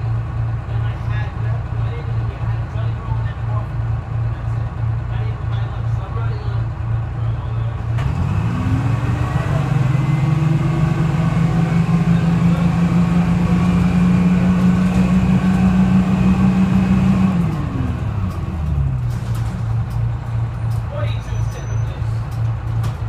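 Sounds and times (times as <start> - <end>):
diesel bus engine revving: 0.0 - 23.0.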